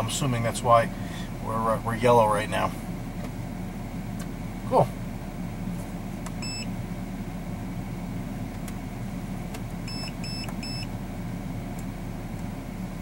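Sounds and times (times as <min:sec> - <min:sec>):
low hum of car: 0:00.0 - 0:13.0.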